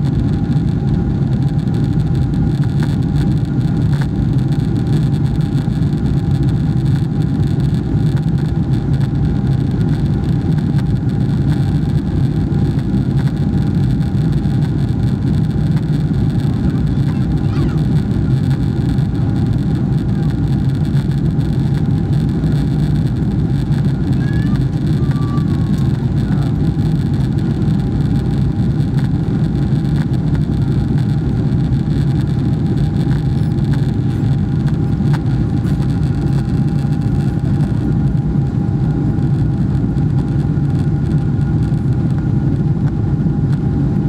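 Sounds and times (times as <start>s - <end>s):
airplane engines and airflow rushing: 0.0s - 44.0s.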